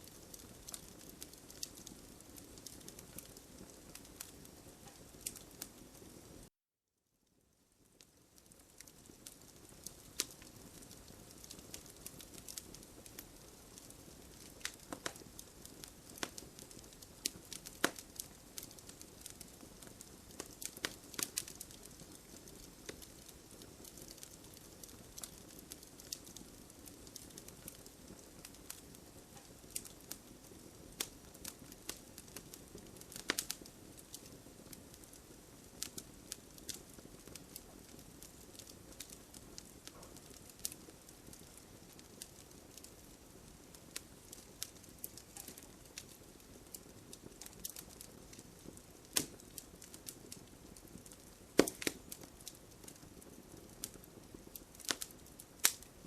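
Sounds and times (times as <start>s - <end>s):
wood fire crackling: 0.0s - 6.5s, 7.3s - 56.0s.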